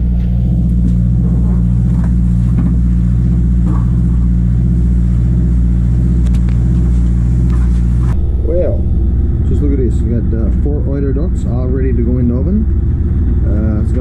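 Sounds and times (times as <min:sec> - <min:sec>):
diesel boat engine droning: 0:00.0 - 0:14.0.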